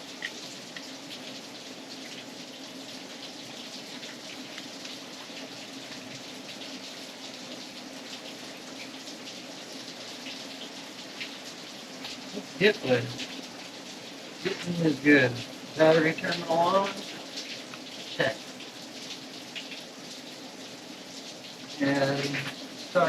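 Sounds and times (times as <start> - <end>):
rain falling: 0.0 - 23.0
ticks of raindrops: 0.0 - 23.0.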